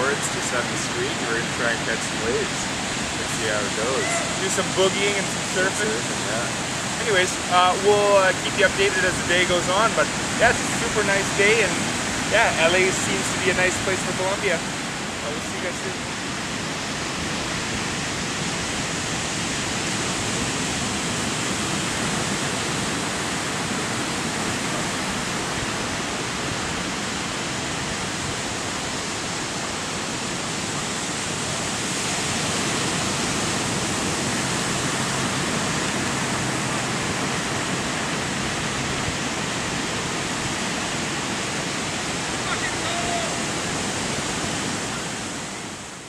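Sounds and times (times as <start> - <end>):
ocean waves breaking on beach: 0.0 - 46.0.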